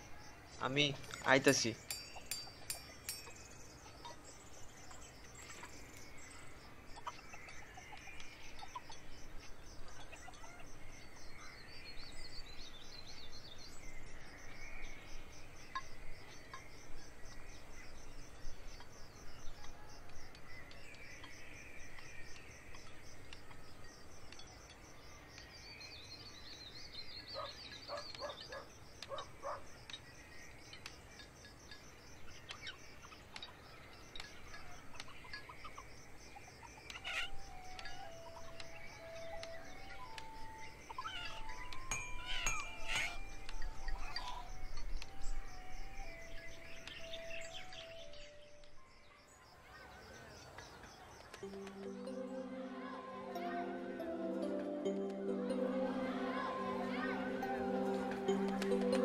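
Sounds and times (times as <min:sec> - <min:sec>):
birds calling: 0:00.0 - 0:48.8
insects chirring: 0:00.0 - 0:59.0.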